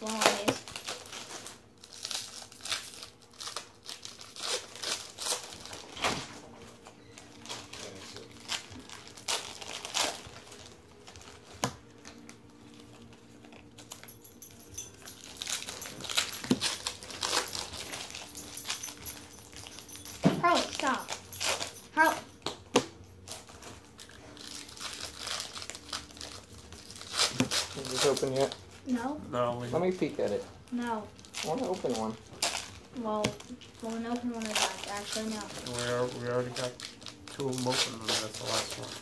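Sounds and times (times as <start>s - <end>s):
foil wrappers crinkling: 0.0s - 22.4s, 23.0s - 39.0s.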